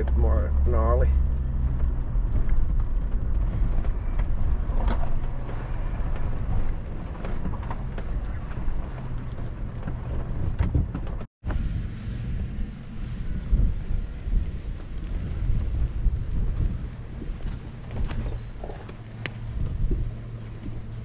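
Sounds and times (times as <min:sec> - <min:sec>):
truck engine at low speed: 0:00.0 - 0:21.0.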